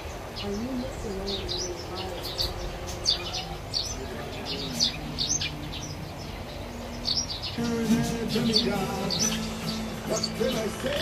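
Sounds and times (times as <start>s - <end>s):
low steady tones: 0.0s - 11.0s
parakeet chirping: 0.0s - 11.0s.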